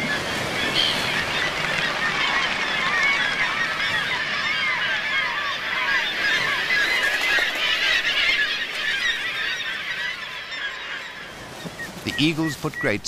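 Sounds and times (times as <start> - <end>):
seabird colony calling: 0.0 - 13.0.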